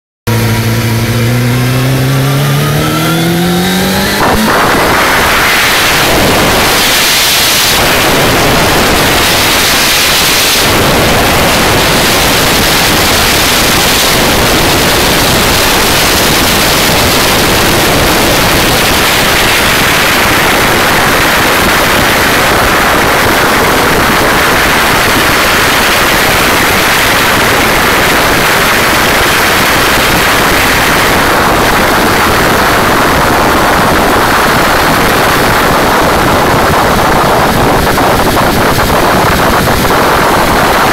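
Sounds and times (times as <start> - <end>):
wind rush on microphone: 0.3 - 40.9.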